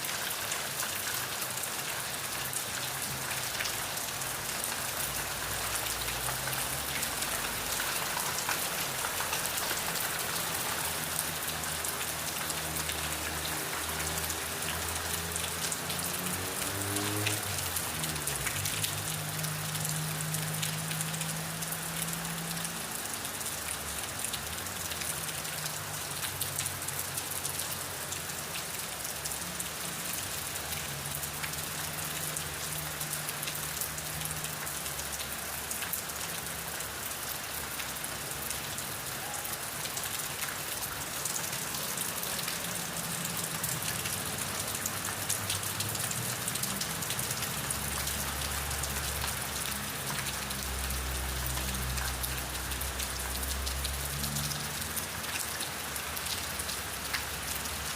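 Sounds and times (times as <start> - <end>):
raindrops pattering: 0.0 - 57.9.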